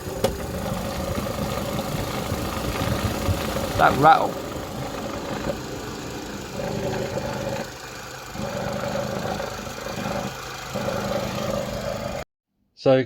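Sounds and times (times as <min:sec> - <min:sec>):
car engine idling: 0:00.0 - 0:12.2
engine rattle: 0:00.0 - 0:12.2.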